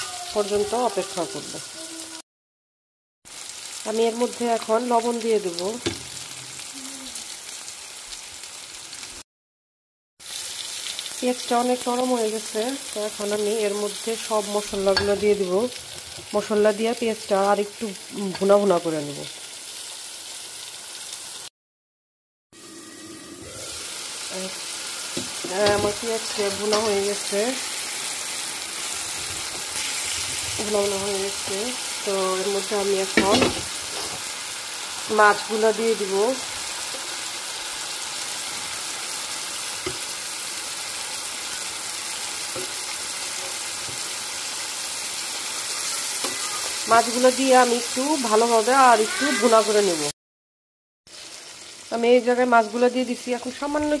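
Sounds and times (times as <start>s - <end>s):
onions sizzling in oil: 0.0s - 2.2s, 3.3s - 9.2s, 10.2s - 21.5s, 22.6s - 50.2s, 51.1s - 54.0s.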